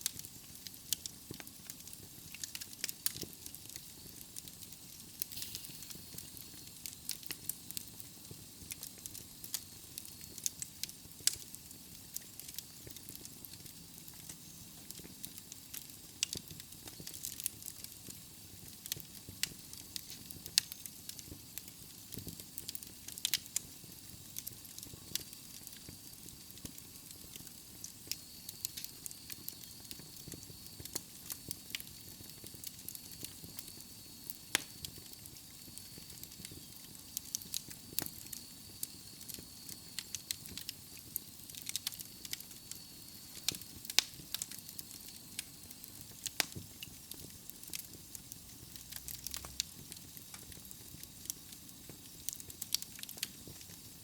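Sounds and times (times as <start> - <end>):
sharp pops of fire: 0.0 - 53.9
logs crackling in a fireplace: 0.0 - 54.0
soft hiss: 0.0 - 54.0.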